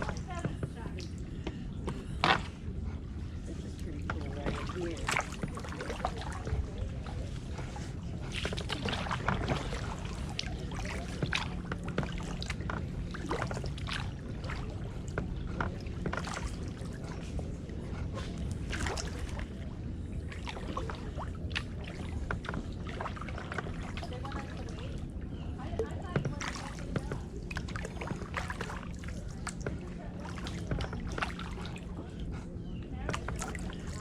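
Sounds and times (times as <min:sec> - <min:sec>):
low rumble: 0:00.0 - 0:34.0
paddle splashing in water: 0:00.0 - 0:34.0.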